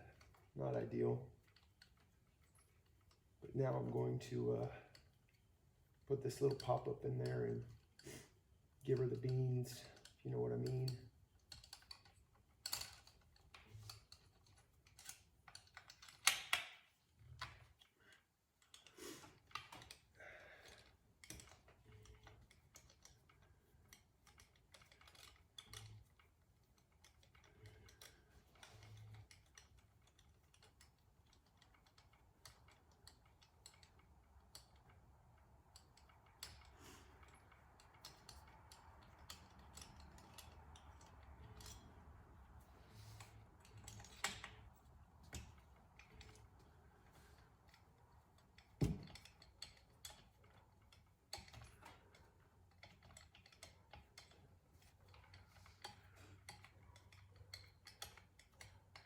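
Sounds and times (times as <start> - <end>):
clinks of tools and metal parts: 3.8 - 59.0.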